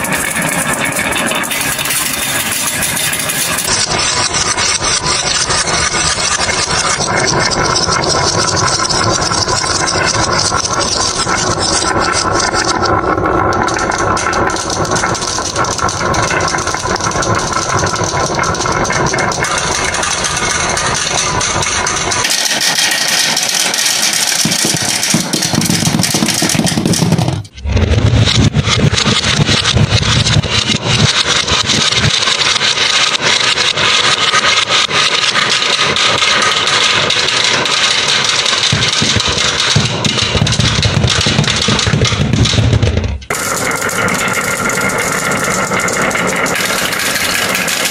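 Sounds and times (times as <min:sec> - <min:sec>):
low rumble: 0:00.0 - 0:22.2, 0:24.6 - 0:32.1, 0:38.8 - 0:47.9
marbles clattering on wooden run: 0:00.0 - 0:47.9.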